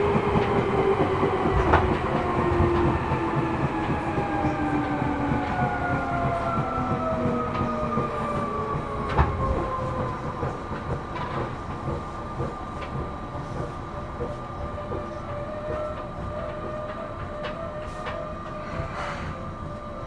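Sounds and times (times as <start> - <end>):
electric train motor whine: 0.0 - 20.0
wheels clicking over rails: 0.0 - 20.0.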